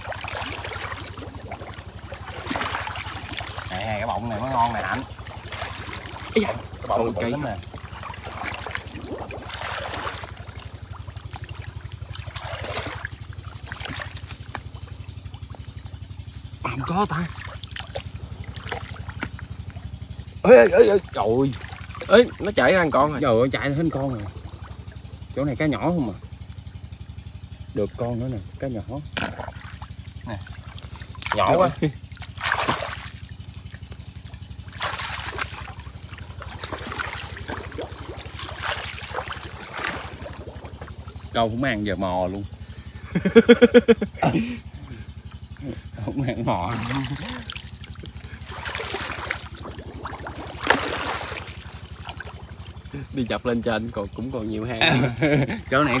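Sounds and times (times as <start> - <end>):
low engine putter: 0.0 - 56.0
water sloshing and splashing: 0.0 - 56.0.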